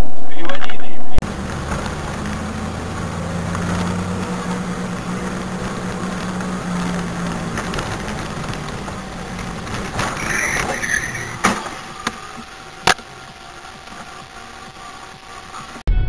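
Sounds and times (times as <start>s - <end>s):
car engine and road noise: 0.8s - 15.9s.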